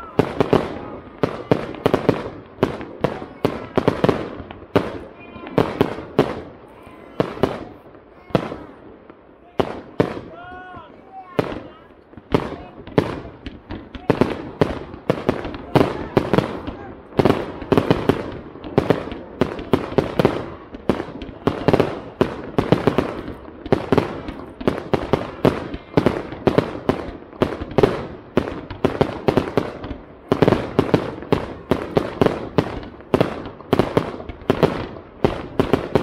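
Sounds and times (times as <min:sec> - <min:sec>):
fireworks bangs: 0:00.0 - 0:36.0.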